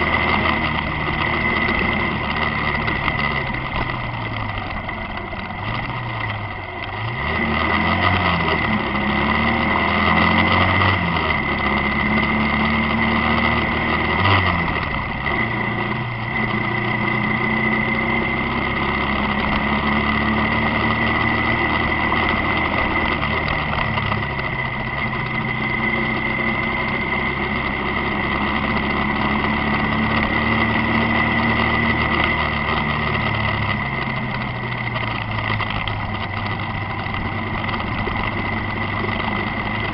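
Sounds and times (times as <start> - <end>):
motorcycle engine running: 0.0 - 39.9
steady high whine: 0.0 - 39.9.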